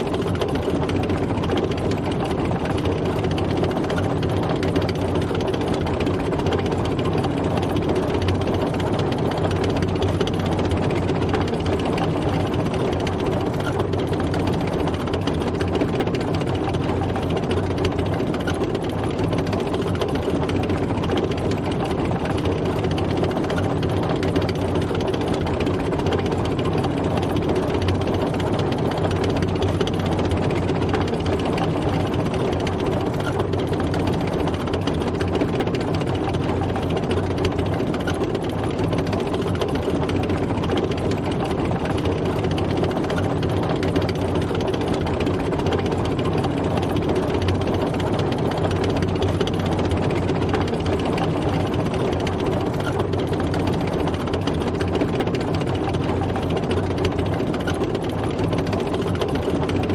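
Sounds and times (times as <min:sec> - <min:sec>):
rough mechanical rattle: 0:00.0 - 0:59.9
tank engine running: 0:00.0 - 0:59.9.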